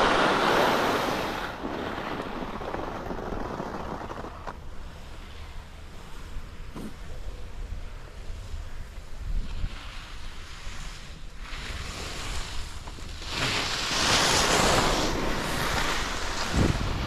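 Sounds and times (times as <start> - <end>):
skis scraping over snow: 0.0 - 17.0
wind rumbling on microphone: 0.0 - 17.0.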